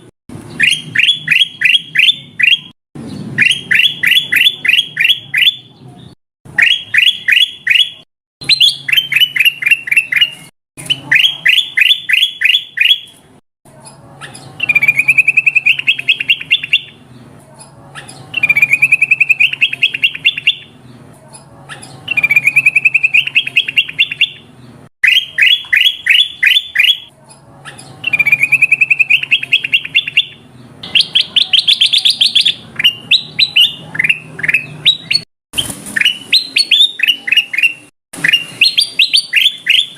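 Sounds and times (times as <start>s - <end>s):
bird chirping rapidly: 0.0s - 13.2s, 14.2s - 17.2s, 17.9s - 21.0s, 21.7s - 27.1s, 27.7s - 39.9s.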